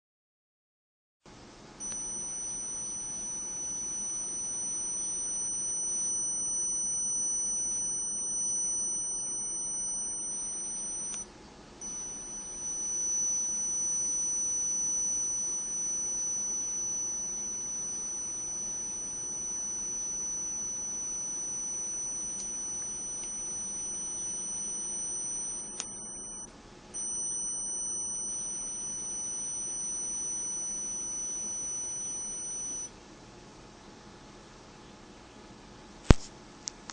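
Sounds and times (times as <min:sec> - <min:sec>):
high-pitched motor whine: 0:01.8 - 0:32.9.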